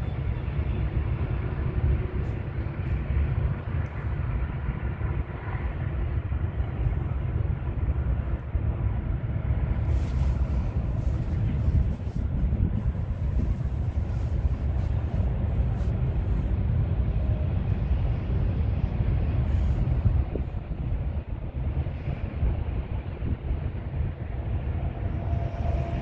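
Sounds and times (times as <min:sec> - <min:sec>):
distant freight train rumbling: 0:00.0 - 0:26.0
wind buffeting microphone: 0:00.0 - 0:26.0.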